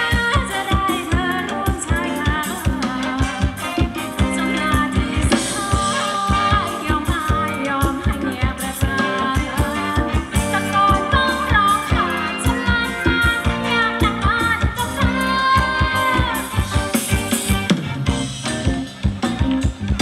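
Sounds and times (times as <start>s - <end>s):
person singing: 0.0s - 17.0s
band playing dance music: 0.0s - 20.0s
steady drum beat: 0.0s - 20.0s.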